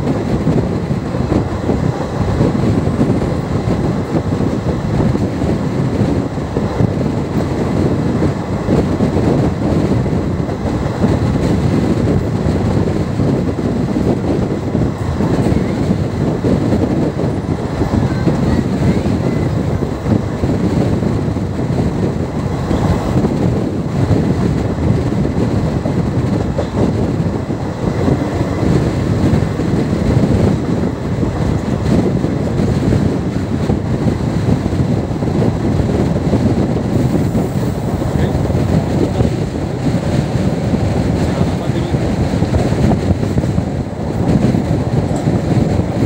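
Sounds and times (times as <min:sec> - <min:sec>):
passenger train running: 0:00.0 - 0:46.0
wind buffeting microphone: 0:00.0 - 0:46.0.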